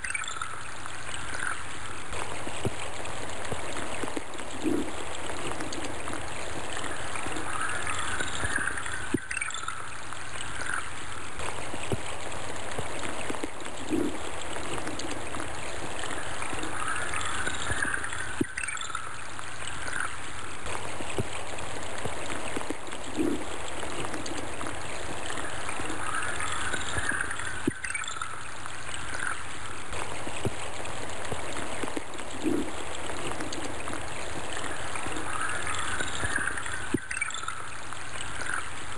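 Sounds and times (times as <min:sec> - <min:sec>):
stream trickling and gurgling: 0:00.0 - 0:38.9.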